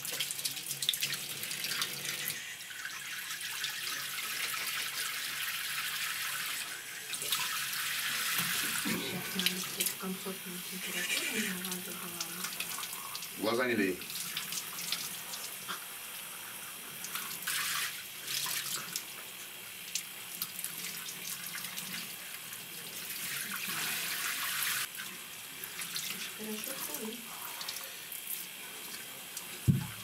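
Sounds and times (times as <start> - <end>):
shower water spraying: 0.0 - 30.0.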